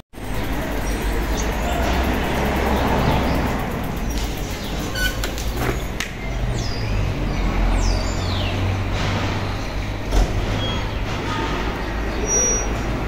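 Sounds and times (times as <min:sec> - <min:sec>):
low engine rumble: 0:00.2 - 0:13.0.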